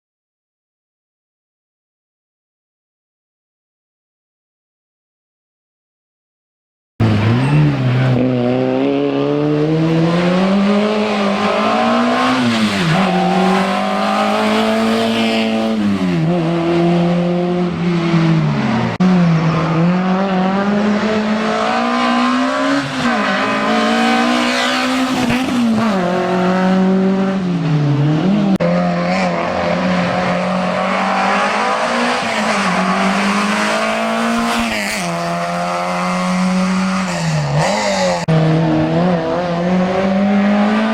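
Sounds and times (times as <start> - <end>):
car engine revving: 7.0 - 40.9.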